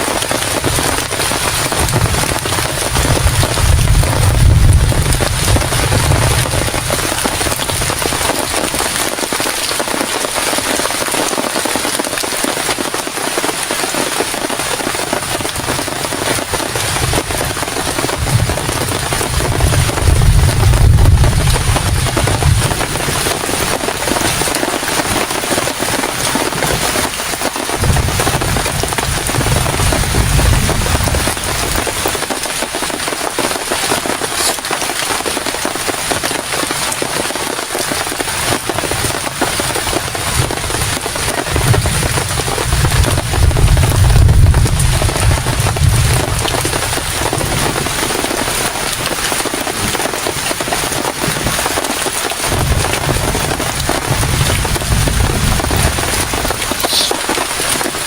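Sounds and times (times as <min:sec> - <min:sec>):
strong wind gusts rumbling: 0:00.0 - 0:09.1, 0:14.9 - 0:33.0, 0:38.1 - 0:58.0
heavy rain falling: 0:00.0 - 0:58.0.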